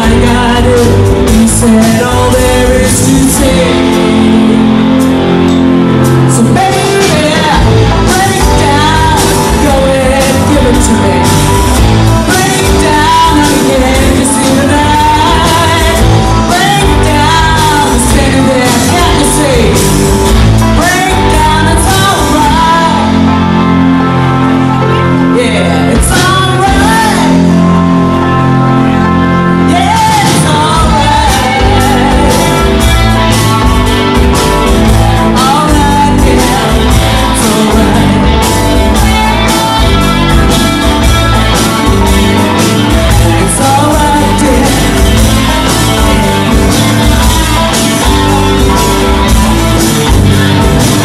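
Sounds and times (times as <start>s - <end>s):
bass guitar: 0.0s - 51.0s
drum kit: 0.0s - 51.0s
electric guitars: 0.0s - 51.0s
lead singer singing: 0.0s - 51.0s.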